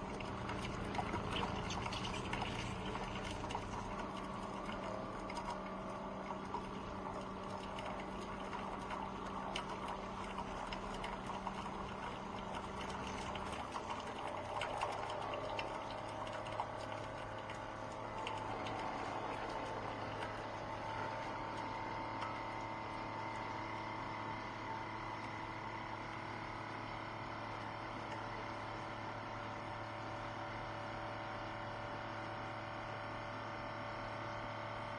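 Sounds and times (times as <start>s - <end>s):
crackling bubbling water: 0.0s - 30.3s
coffee maker pump hum: 0.0s - 34.9s.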